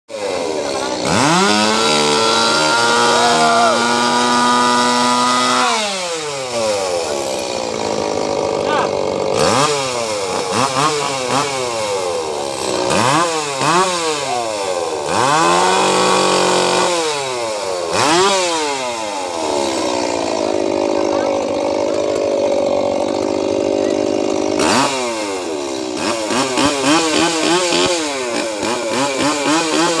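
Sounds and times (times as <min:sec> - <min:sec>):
chainsaw revving: 0:00.1 - 0:30.0.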